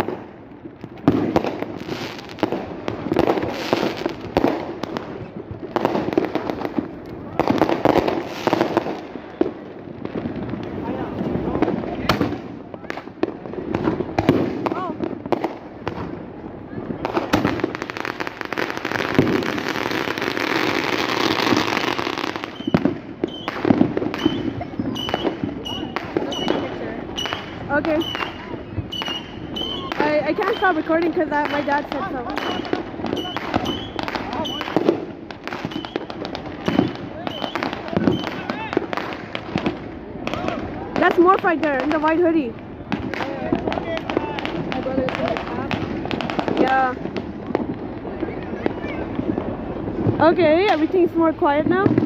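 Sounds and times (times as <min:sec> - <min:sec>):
fireworks bangs and pops: 0:00.0 - 0:52.0
fireworks crackling hiss: 0:00.0 - 0:52.0.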